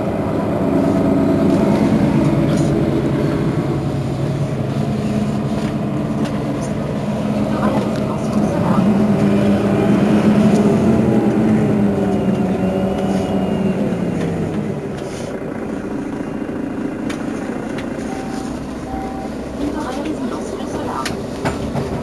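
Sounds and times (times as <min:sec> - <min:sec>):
bus diesel engine idling: 0:00.0 - 0:22.0.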